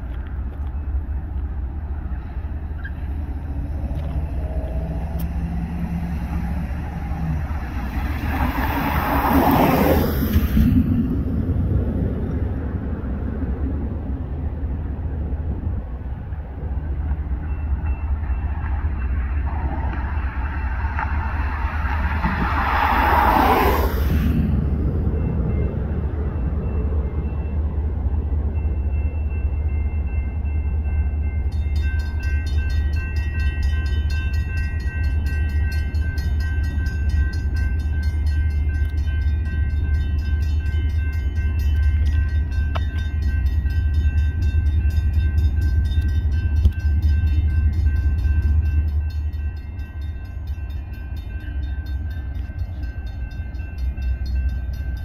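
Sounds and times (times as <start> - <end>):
crossing warning bells dinging: 0.0 - 13.2, 14.3 - 23.6, 24.2 - 55.0
freight train deep rumble: 0.0 - 55.0.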